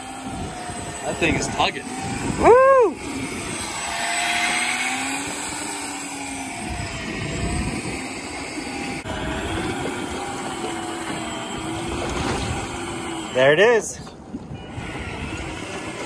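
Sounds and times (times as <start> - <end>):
electric fishing reel motor whine: 0.0 - 16.0
wind and water hiss: 0.0 - 16.0.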